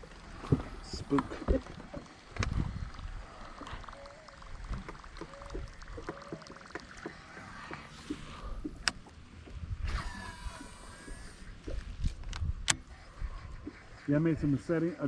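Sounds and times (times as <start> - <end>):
wind rumbling on microphone: 0.3 - 6.2, 6.9 - 14.6.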